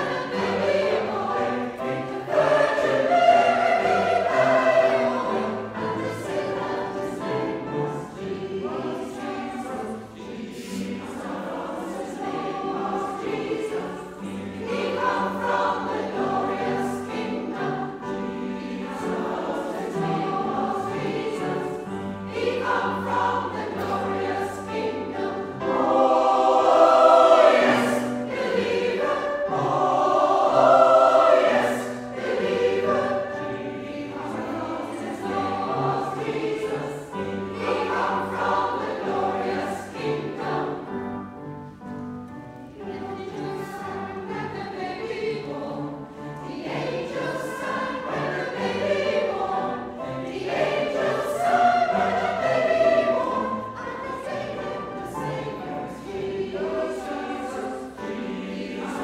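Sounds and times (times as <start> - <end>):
mixed choir singing a carol: 0.0 - 59.0.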